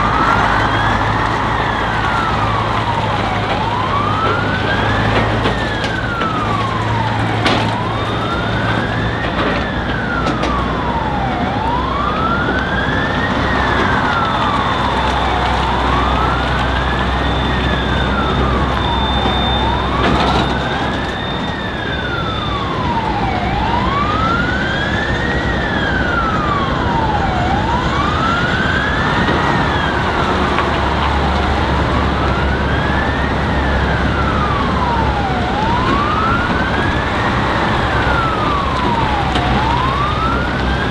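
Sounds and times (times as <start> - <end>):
diesel truck engines running: 0.0 - 40.9
emergency siren wailing: 0.0 - 40.9.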